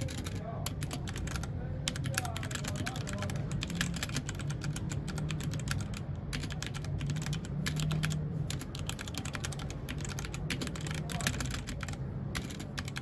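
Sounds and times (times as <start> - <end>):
mechanical keyboard typing: 0.0 - 13.0.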